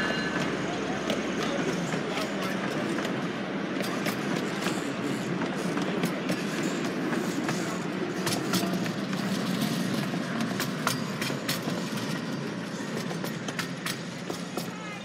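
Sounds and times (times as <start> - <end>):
train rumble: 0.0 - 15.0
wheels clicking over rail joints: 0.3 - 15.0.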